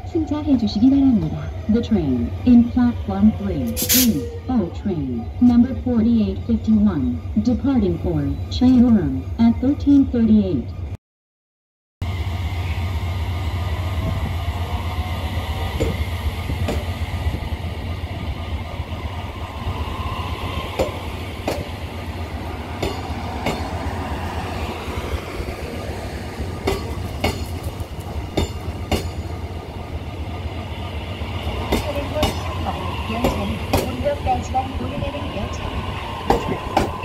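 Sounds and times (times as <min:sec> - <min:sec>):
train low drone: 0:00.0 - 0:11.0, 0:12.0 - 0:37.0.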